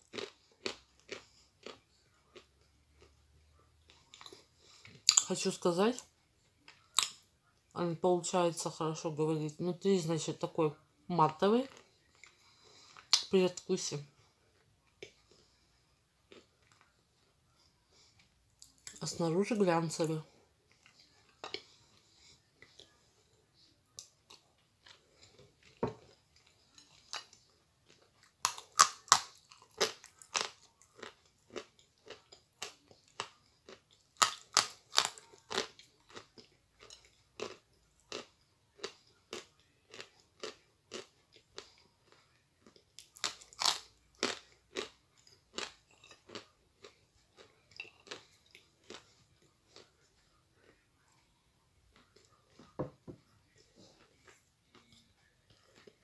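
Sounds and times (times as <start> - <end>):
crunching and chewing: 0.0 - 5.3, 5.9 - 7.5, 11.6 - 13.4, 14.2 - 19.1, 20.0 - 56.0.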